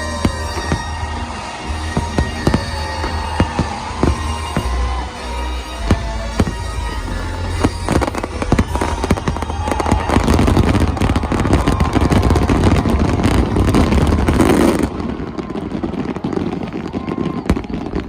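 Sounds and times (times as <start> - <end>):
show music: 0.0 - 14.8
fireworks bangs and crackle: 0.0 - 18.0.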